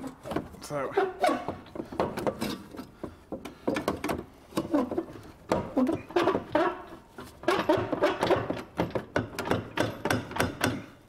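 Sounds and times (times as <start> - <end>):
metal exhaust pipe knocking and clanking: 1.3 - 6.8, 7.4 - 11.0.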